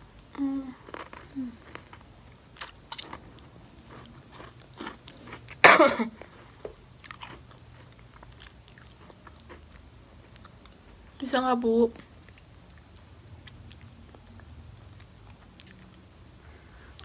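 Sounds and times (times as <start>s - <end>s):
person chewing: 0.8s - 11.0s, 12.1s - 16.0s.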